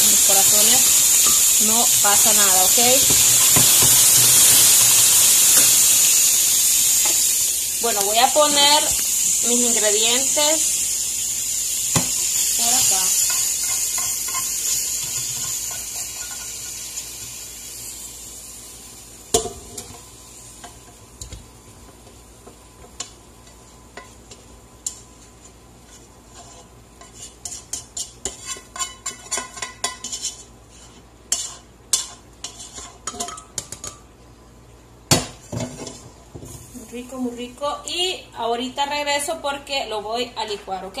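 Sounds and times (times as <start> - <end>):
hot pan sizzling: 0.0 - 39.6.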